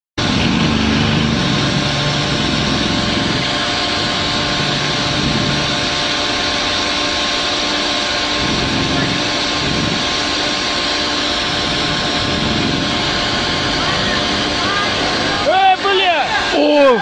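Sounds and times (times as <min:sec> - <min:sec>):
heavy machinery engine running: 0:00.2 - 0:17.0.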